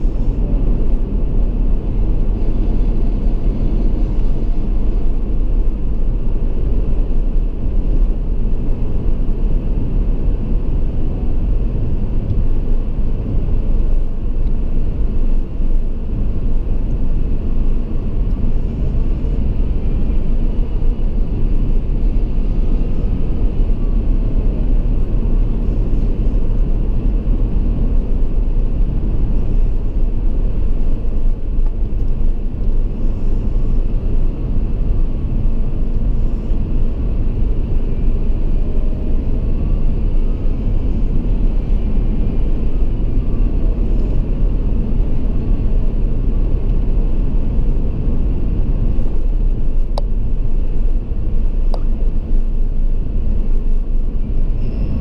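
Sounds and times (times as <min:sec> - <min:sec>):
car driving through road tunnel: 0:00.0 - 0:55.0.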